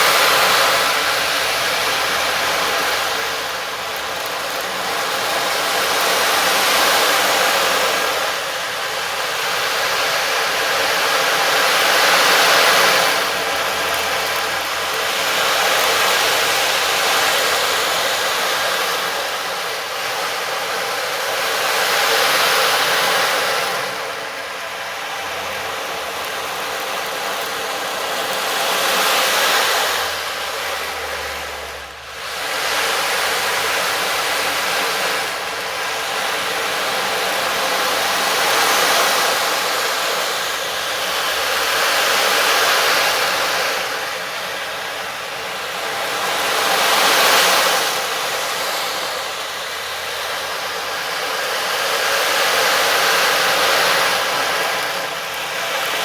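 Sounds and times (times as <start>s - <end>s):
steady rushing hiss: 0.0s - 56.0s.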